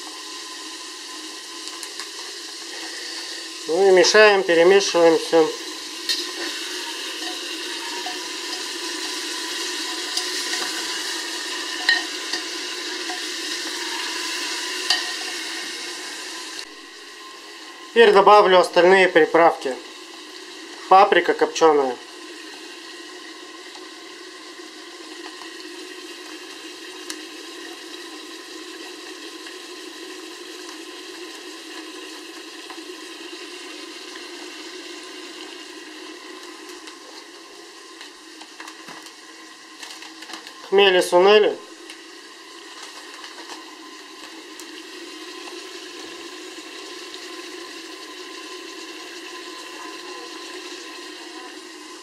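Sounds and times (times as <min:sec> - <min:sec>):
meat sizzling in a pot: 0:00.0 - 0:52.0.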